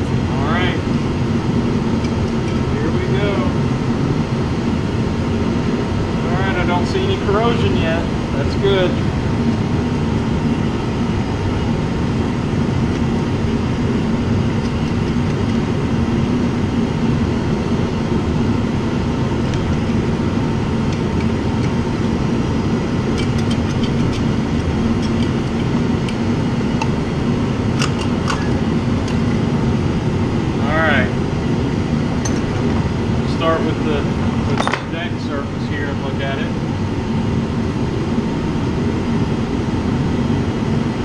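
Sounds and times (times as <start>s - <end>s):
machine droning hum: 0.0s - 41.0s.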